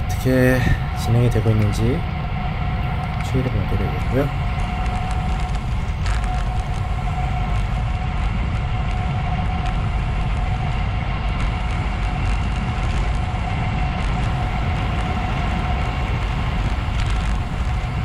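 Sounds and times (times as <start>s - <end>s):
steady whine: 0.0s - 18.0s
wind rushing over microphone: 0.0s - 18.0s
tyre noise on asphalt: 1.7s - 18.0s.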